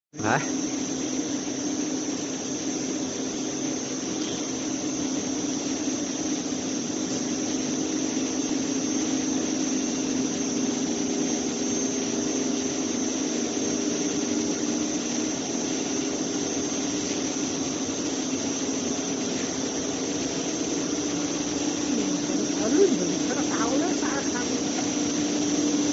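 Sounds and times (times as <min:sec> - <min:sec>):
machine humming with high whine: 0:00.2 - 0:25.9.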